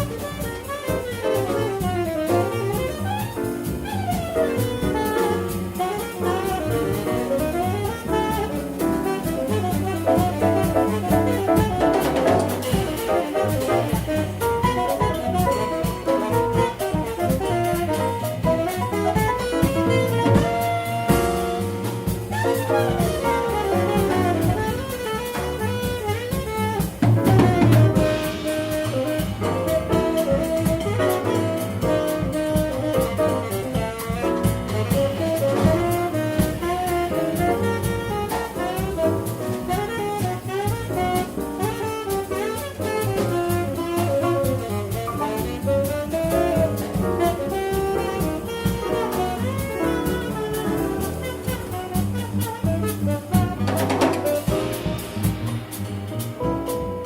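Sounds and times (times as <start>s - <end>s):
drum kit with ride cymbal: 0.0s - 57.0s
piano: 0.0s - 57.0s
tenor saxophone: 0.0s - 57.0s
walking double bass: 0.0s - 57.0s.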